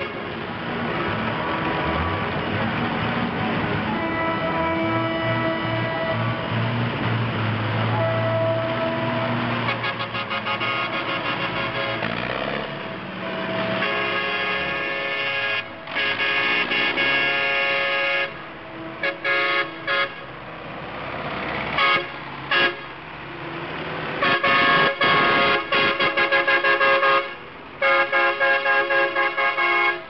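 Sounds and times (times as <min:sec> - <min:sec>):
tractor horns honking: 0:00.0 - 0:23.1, 0:24.0 - 0:30.0
tractor engines running: 0:00.0 - 0:30.0.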